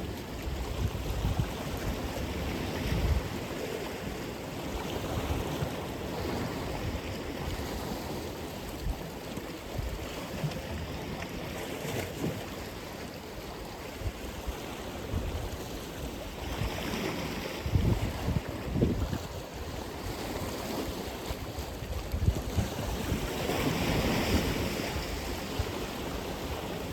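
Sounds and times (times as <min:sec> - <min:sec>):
wind buffeting microphone: 0:00.0 - 0:09.1, 0:14.0 - 0:26.9
waves breaking on shore: 0:00.0 - 0:26.9.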